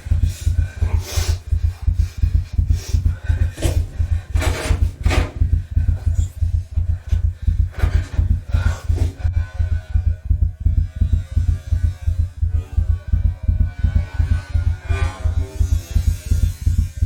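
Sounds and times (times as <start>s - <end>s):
fast low thudding pulse: 0.0s - 17.0s.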